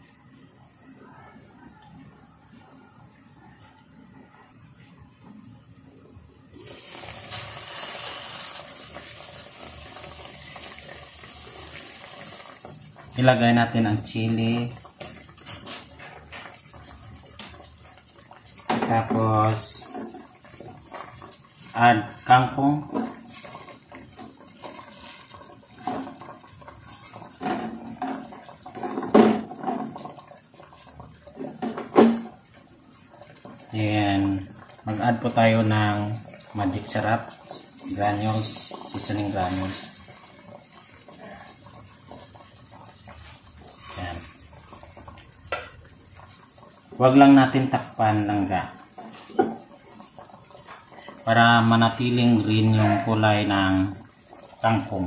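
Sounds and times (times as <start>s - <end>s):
broth boiling in a pot: 0.0s - 55.0s.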